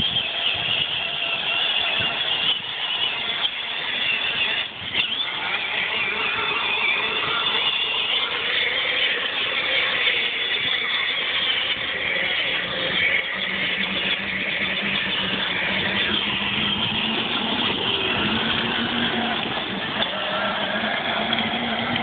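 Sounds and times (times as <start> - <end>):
toy car electric motors whining: 0.0 - 22.0.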